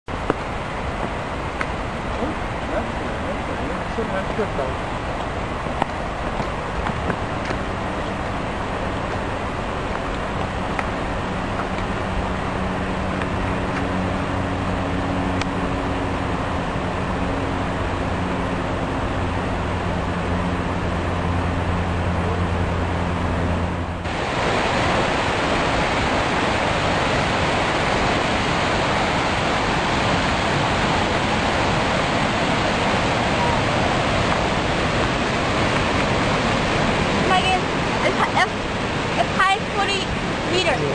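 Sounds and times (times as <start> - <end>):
low hum: 0.1 - 40.9
waterfall rushing: 0.1 - 40.9.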